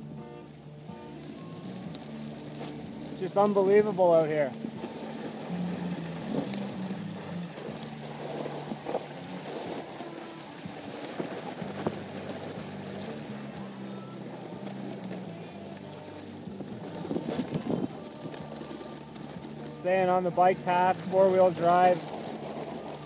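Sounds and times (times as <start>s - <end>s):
vehicle engine hum: 0.0s - 23.0s
light patters against vehicle body: 1.2s - 23.0s
heavy wind noise: 4.3s - 23.0s.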